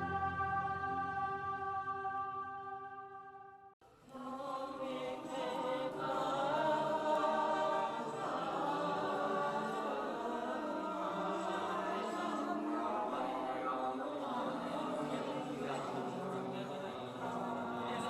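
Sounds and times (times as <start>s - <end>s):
choir of chanting voices: 0.0s - 18.0s.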